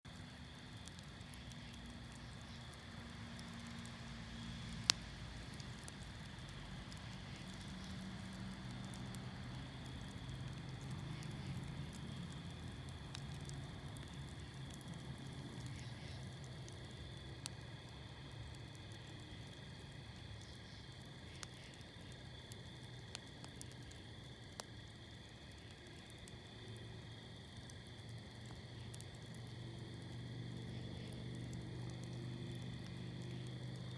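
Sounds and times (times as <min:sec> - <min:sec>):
crickets chirping: 0:00.1 - 0:33.9
wood fire crackling and popping: 0:00.1 - 0:33.9.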